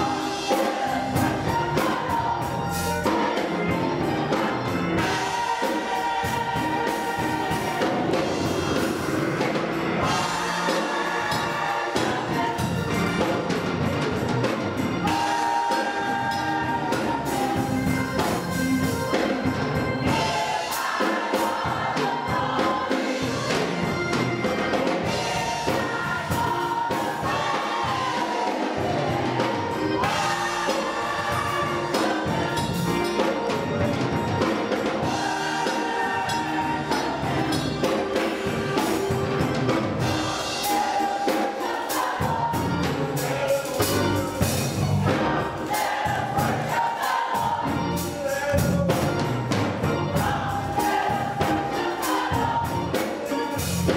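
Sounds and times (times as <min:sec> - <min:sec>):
drums and percussion beating: 0:00.0 - 0:53.9
gospel choir singing: 0:00.0 - 0:53.9
live band: 0:00.0 - 0:53.9.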